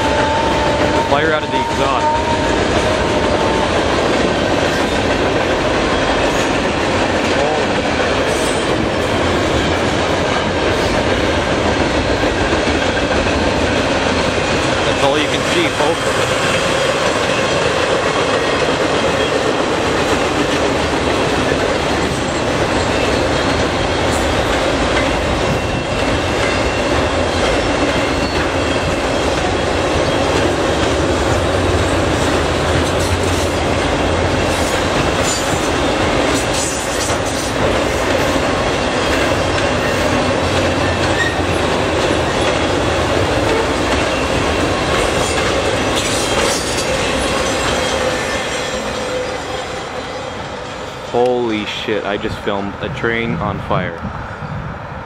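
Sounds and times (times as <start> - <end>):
steel wheels rattling on rail: 0.0 - 53.0
freight train rolling past: 0.0 - 55.0.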